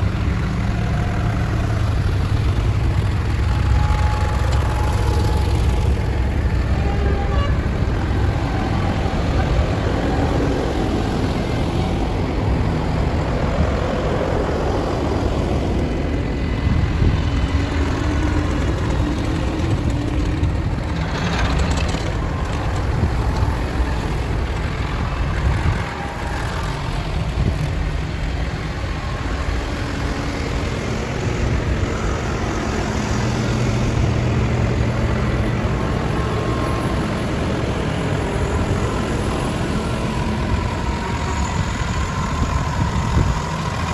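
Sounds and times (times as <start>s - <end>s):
tractor engines rumbling: 0.0s - 43.9s.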